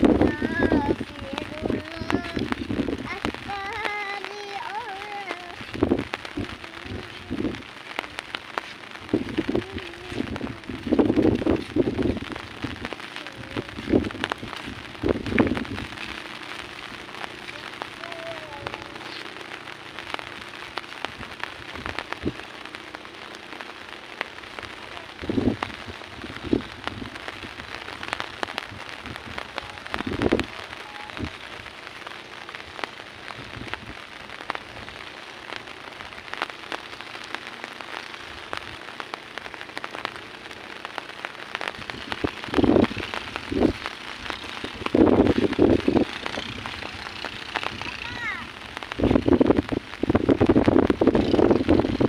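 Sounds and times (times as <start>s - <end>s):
rain falling: 0.0s - 52.0s
raindrops hitting close: 0.0s - 52.0s.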